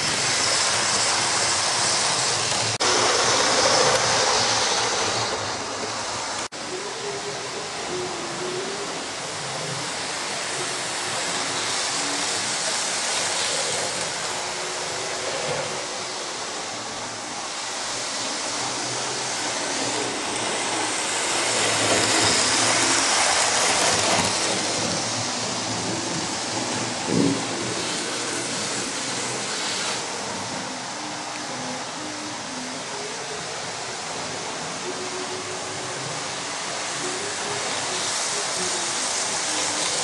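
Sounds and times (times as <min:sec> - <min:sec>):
model trains rumbling on track: 0:00.0 - 0:40.0.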